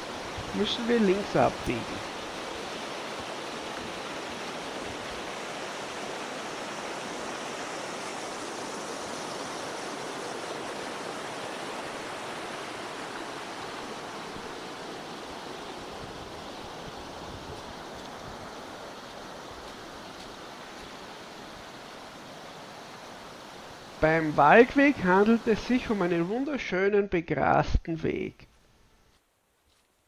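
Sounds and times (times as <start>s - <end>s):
stream rushing over rocks: 0.0s - 26.7s.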